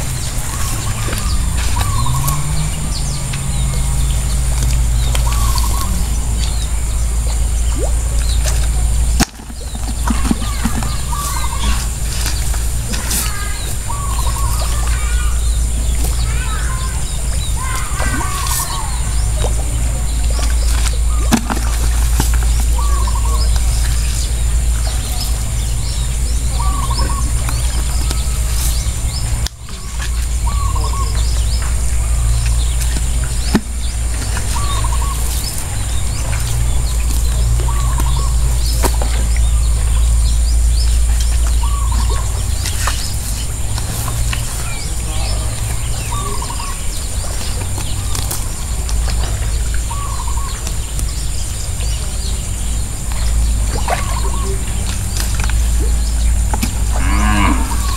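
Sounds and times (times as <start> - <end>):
bird chirping call: 0.0 - 57.9
high insect drone: 0.0 - 57.9
steady low rumble: 0.0 - 57.9.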